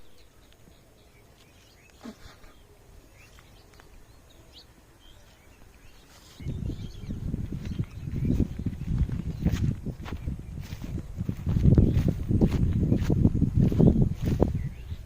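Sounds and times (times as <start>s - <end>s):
faint bird chirps: 0.0s - 10.9s, 13.7s - 15.0s.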